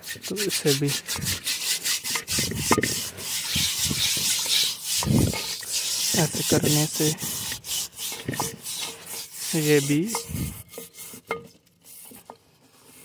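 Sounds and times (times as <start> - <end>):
scrubbing brush rasping on bowl: 0.0 - 13.0.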